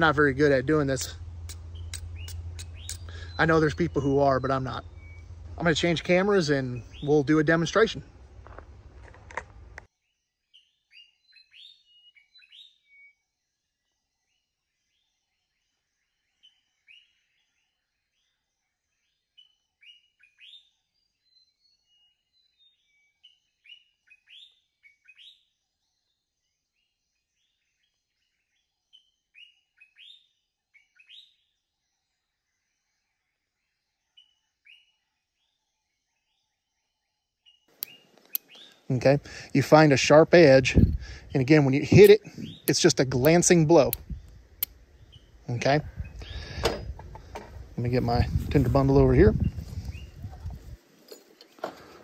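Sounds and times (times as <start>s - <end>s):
faint bird chirps: 0.0s - 7.4s, 10.0s - 38.9s, 41.8s - 47.3s.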